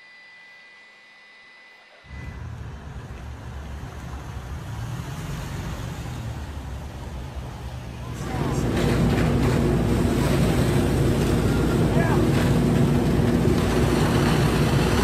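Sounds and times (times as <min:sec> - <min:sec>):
fire low rumble with hiss: 0:02.2 - 0:15.0.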